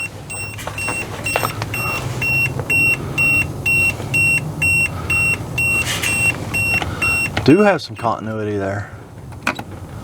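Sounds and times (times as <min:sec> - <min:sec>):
multimeter continuity beeps: 0:00.0 - 0:08.3.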